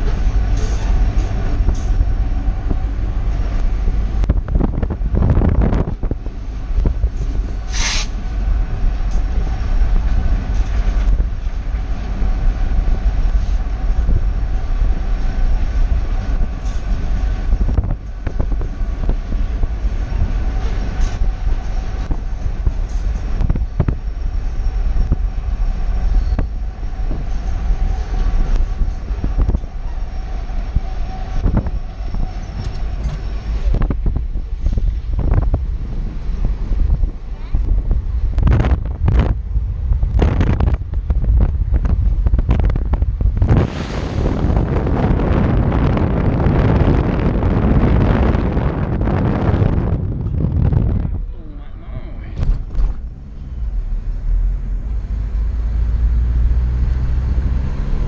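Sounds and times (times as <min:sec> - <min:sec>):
diesel locomotive rumble: 0:00.0 - 0:58.0
wind and road noise: 0:00.0 - 0:58.0.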